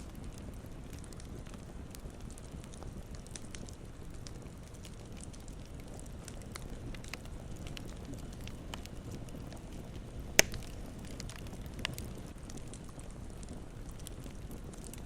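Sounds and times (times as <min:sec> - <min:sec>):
campfire crackling: 0:00.0 - 0:15.0
sharp pops from fire: 0:00.0 - 0:15.0.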